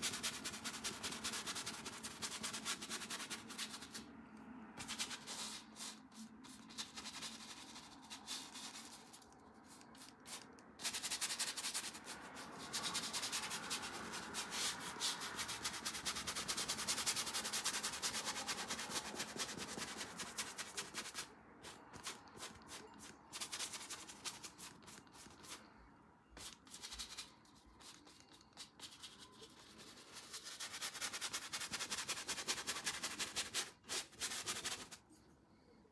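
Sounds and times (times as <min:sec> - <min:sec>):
paintbrush scrubbing on canvas: 0:00.0 - 0:04.1, 0:04.8 - 0:25.6, 0:26.4 - 0:35.0.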